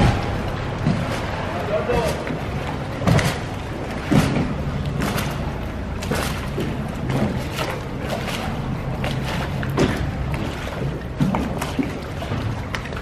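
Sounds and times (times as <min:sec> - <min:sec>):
low hum: 0:00.0 - 0:12.7
water splashing against wooden hull: 0:00.0 - 0:13.0.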